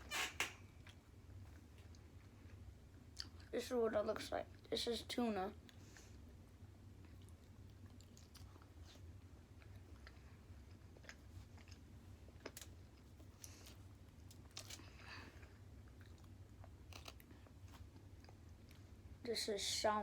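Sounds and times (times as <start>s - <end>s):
low steady hum: 0.0s - 20.0s
child chewing: 0.6s - 3.5s, 5.6s - 19.2s.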